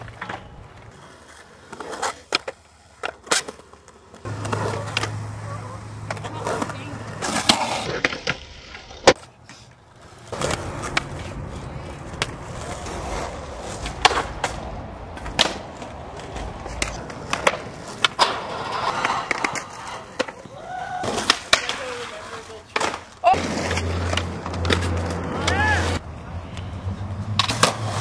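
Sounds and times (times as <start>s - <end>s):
skateboard clacking on ground: 0.0s - 28.0s
skateboard wheels rolling: 0.0s - 28.0s.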